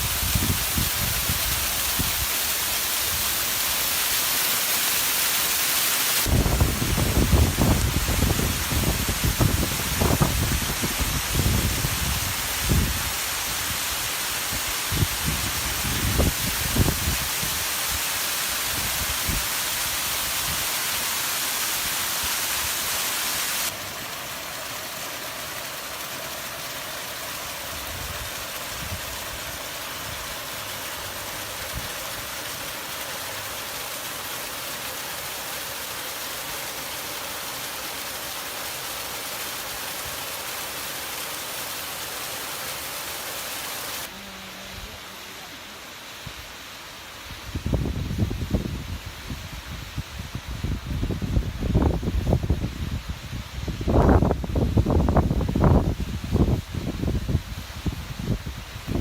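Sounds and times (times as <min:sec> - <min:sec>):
heavy rain hissing: 0:00.0 - 0:59.0
running water: 0:00.0 - 0:59.0.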